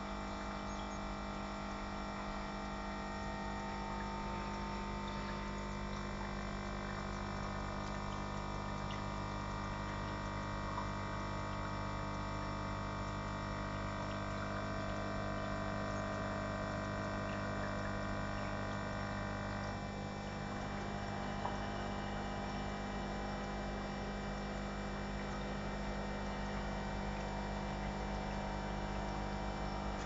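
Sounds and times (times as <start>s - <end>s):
filter pump humming: 0.0s - 30.0s.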